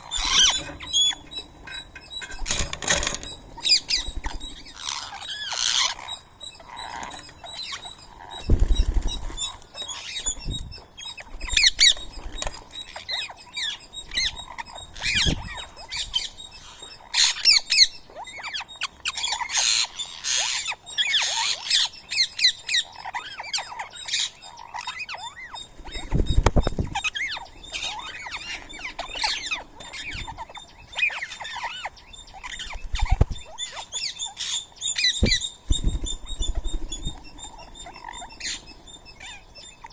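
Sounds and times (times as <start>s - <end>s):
parakeets squawking and chirping: 0.0s - 39.9s.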